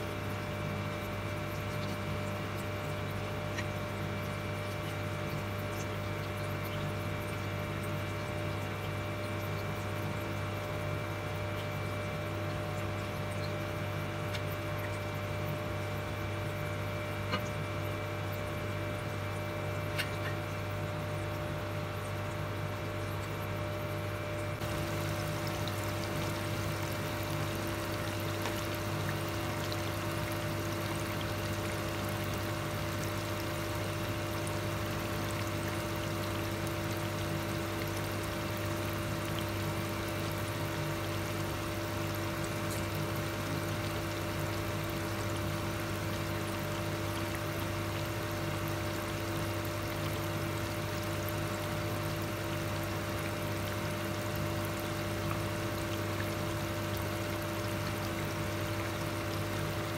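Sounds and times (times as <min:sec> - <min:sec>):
oil bubbling and sizzling: 0:00.0 - 0:59.9.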